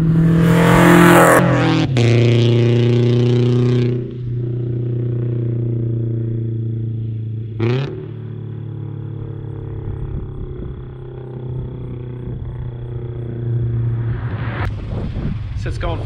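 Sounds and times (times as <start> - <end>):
car engine pulling away: 0.0 - 16.0.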